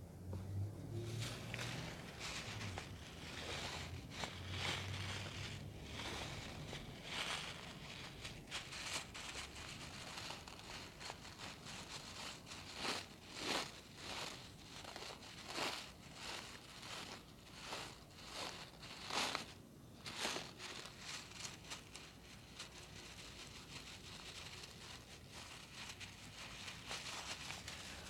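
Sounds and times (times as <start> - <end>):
crinkly rustling on microphone: 0.9 - 28.0.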